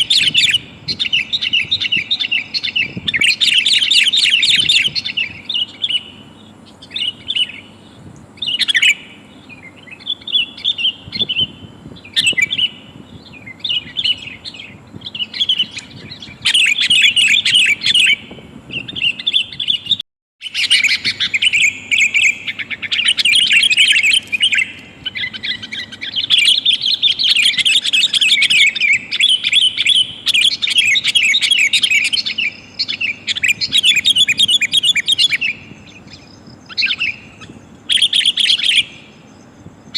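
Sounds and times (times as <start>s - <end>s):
bulbul chirping and chattering: 0.0s - 39.6s.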